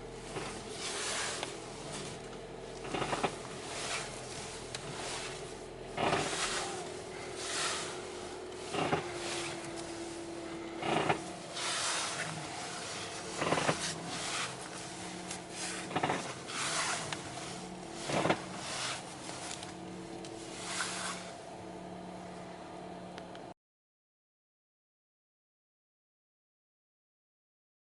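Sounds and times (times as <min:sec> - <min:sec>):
idling car hum: 0:00.0 - 0:23.5
steering creaking: 0:00.0 - 0:23.5.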